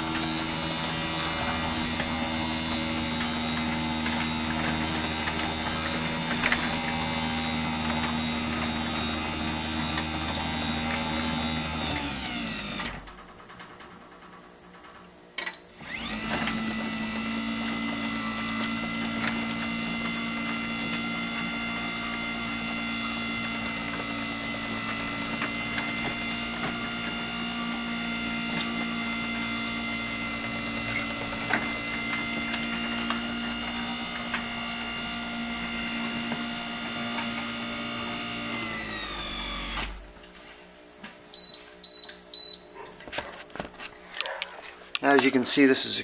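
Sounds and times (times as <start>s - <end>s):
garage door opener motor whining: 0.0s - 40.4s.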